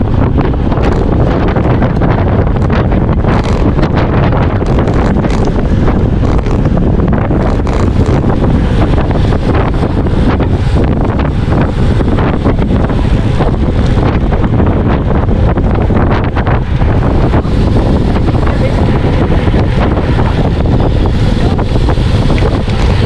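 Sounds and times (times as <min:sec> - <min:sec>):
wind buffeting on microphone: 0:00.0 - 0:23.0.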